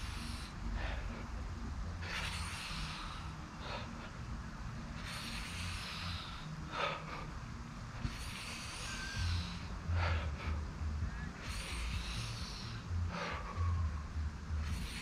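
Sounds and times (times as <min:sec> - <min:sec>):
low rumble: 0:00.0 - 0:15.0
man breathing hard: 0:00.0 - 0:15.0.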